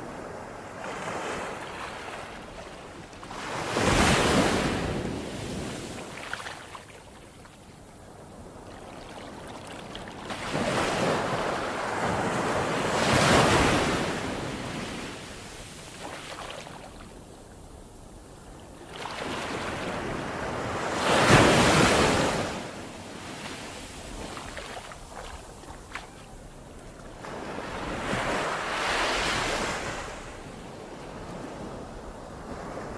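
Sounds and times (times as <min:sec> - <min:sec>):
ocean waves breaking on shore: 0:00.0 - 0:32.9.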